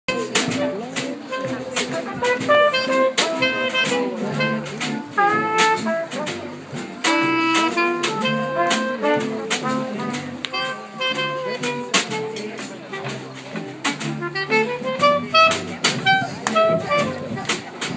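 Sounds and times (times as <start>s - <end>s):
clarinet: 0.1s - 17.9s
drum kit cymbals: 0.1s - 17.9s
plucked upright bass: 0.1s - 17.9s
trumpet: 0.1s - 17.9s.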